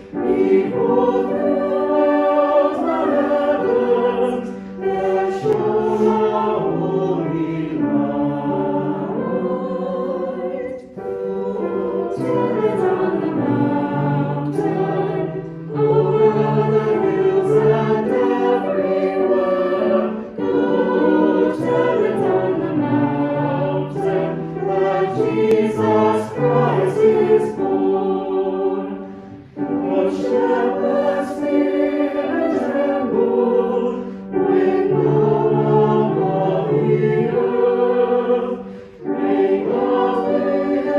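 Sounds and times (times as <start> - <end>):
choir singing: 0.0 - 40.9.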